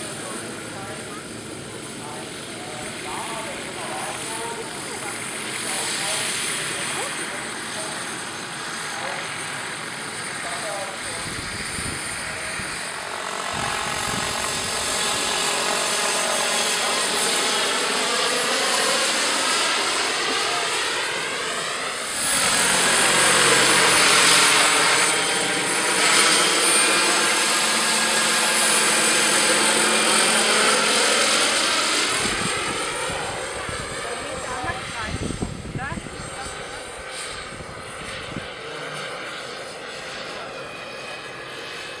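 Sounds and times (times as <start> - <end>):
model helicopter whine: 0.0 - 42.0.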